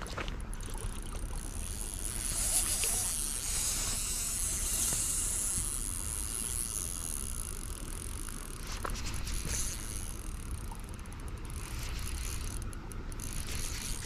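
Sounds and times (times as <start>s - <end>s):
outdoor rumble and hiss: 0.0s - 14.0s
fishing reel clicks: 0.9s - 14.0s.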